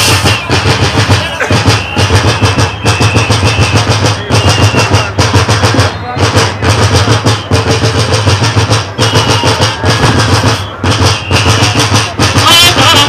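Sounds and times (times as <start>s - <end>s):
short high whistle notes: 0.0s - 7.9s, 9.0s - 12.5s
drums beating in a fast roll: 0.0s - 13.0s.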